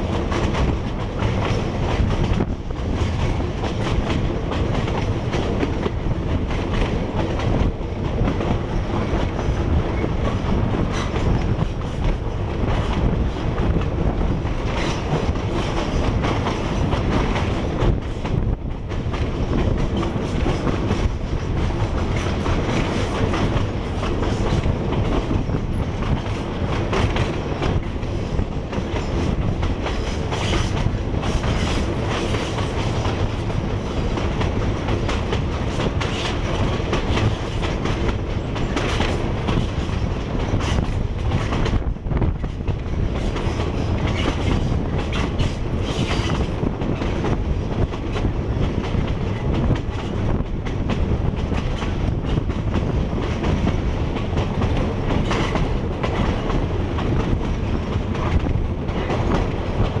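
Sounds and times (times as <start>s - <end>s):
train wheels clattering over track: 0.0s - 60.0s.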